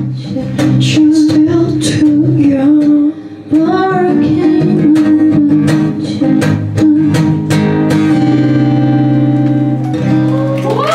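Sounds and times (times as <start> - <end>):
guitar strumming chords: 0.0 - 10.6.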